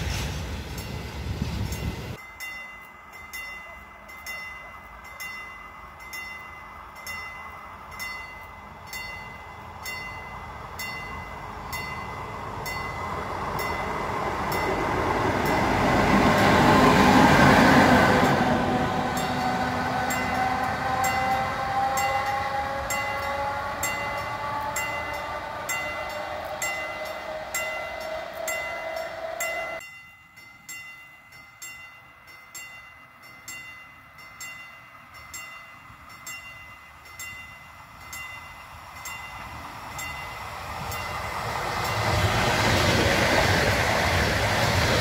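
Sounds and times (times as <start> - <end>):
locomotive whine: 0.0 - 29.8, 34.9 - 45.0
train wheels on rails: 0.0 - 45.0
level-crossing warning bell: 1.7 - 42.4.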